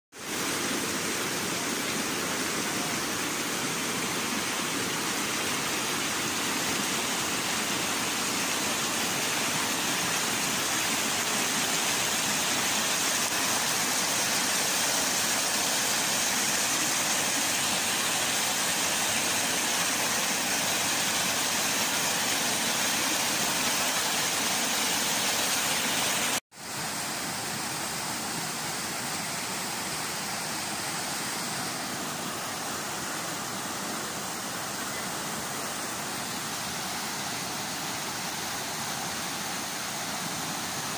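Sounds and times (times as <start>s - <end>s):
river rushing over boulders: 0.2s - 40.9s.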